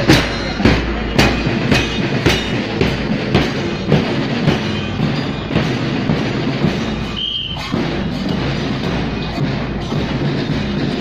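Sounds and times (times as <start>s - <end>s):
marching band music: 0.0s - 11.0s.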